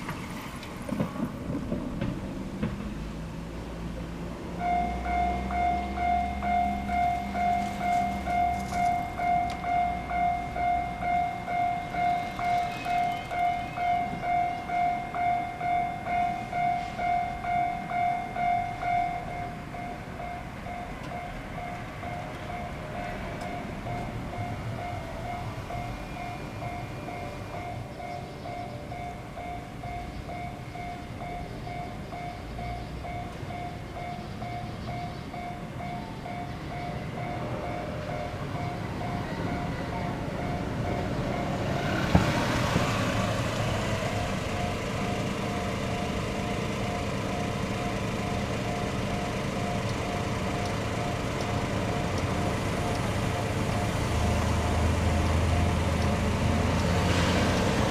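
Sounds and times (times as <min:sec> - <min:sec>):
train passing: 0:00.0 - 0:57.9
level-crossing bell ringing: 0:04.6 - 0:41.8, 0:43.8 - 0:56.7.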